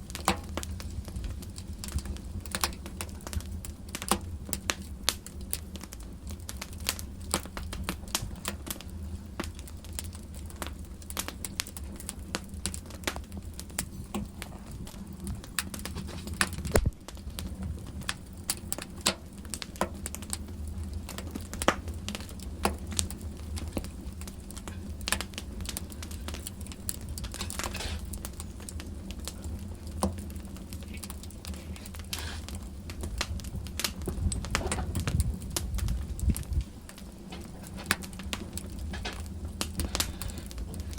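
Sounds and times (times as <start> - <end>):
low steady rumble: 0.0 - 40.9
wood fire crackling: 0.0 - 40.9.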